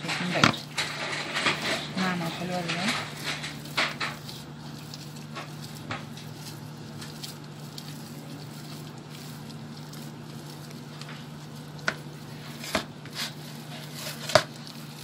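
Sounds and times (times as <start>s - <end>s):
dough squishing and slapping: 0.0s - 15.0s
steady low hum: 0.0s - 15.0s.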